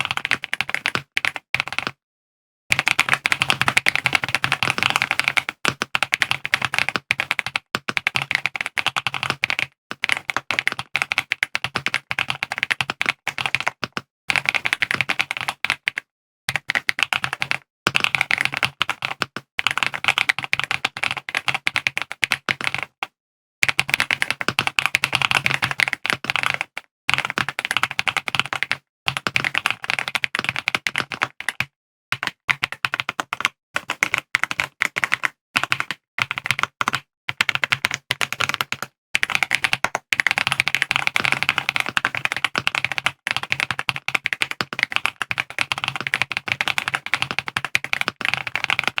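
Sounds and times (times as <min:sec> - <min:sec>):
fast typing on mechanical keyboard: 0:00.0 - 0:02.0, 0:02.7 - 0:23.0, 0:23.6 - 0:49.0.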